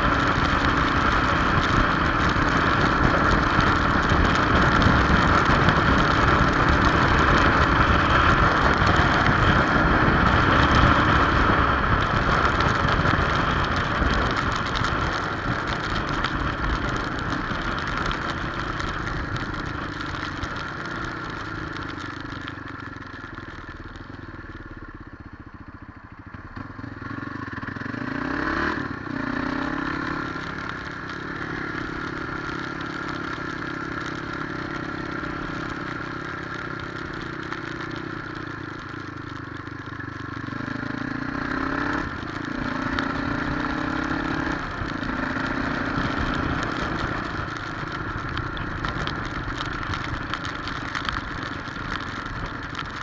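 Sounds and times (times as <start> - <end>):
motorcycle engine accelerating: 0.0 - 53.0
road and wind noise: 0.0 - 53.0.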